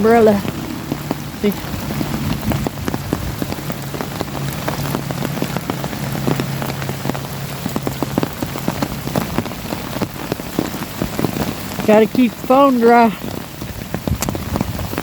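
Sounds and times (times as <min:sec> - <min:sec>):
rain pattering on an umbrella: 0:00.0 - 0:15.0.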